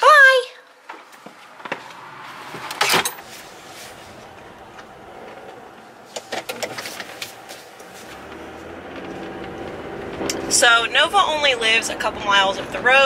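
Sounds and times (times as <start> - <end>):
car engine and road noise: 0.8 - 13.0.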